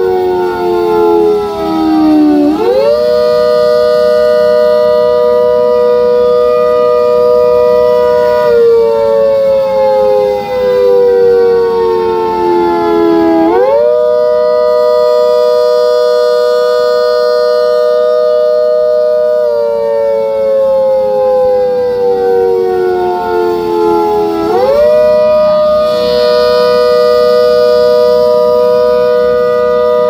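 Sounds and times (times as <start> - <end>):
rotating siren two-tone chord: 0.0 - 30.0.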